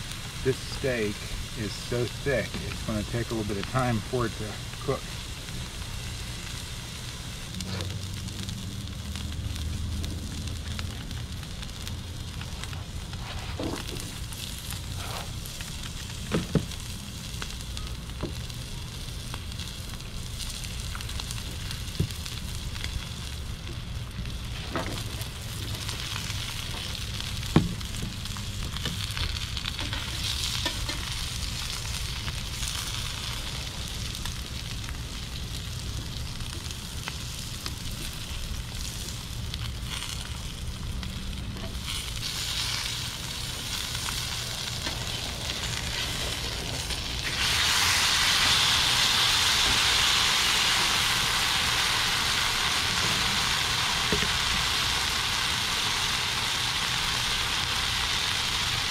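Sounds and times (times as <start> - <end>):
steak sizzling on a griddle: 0.0 - 58.9.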